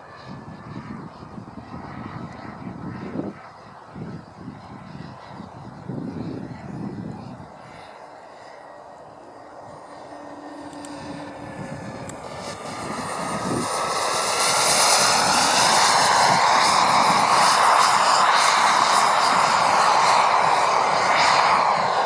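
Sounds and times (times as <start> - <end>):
model jet engine whining: 0.0 - 22.0.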